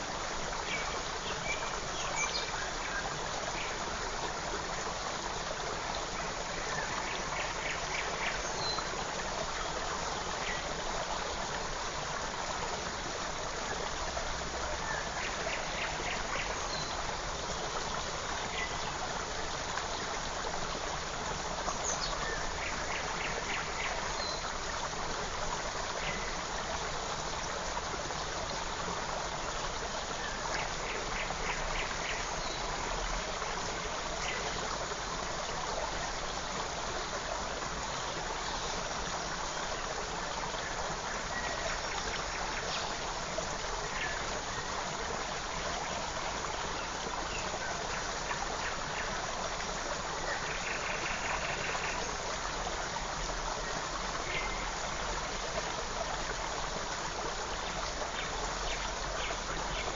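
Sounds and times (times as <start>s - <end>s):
creek running: 0.0s - 59.9s.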